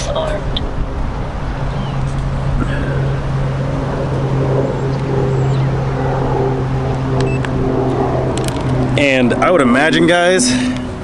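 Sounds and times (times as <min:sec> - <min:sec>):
wind rumble on microphone: 0:00.0 - 0:10.0
quadcopter motors humming: 0:00.0 - 0:11.0.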